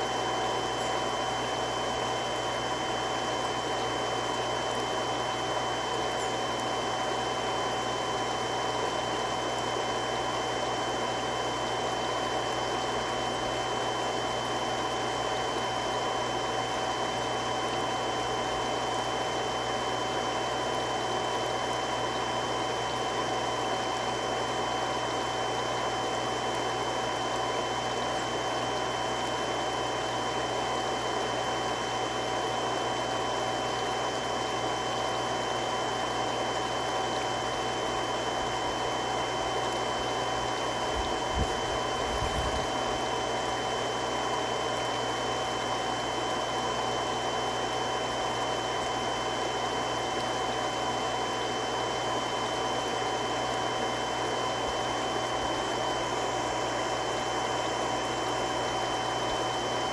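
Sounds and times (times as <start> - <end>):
water pump rushing hum: 0.0 - 59.9.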